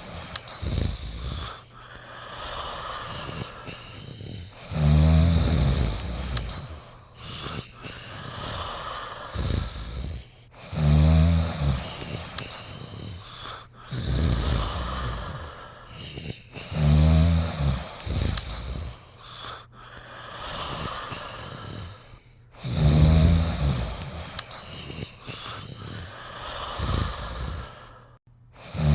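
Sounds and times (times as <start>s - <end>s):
pet snoring: 0.0s - 27.8s, 28.6s - 28.9s
soft breaths: 0.0s - 28.8s.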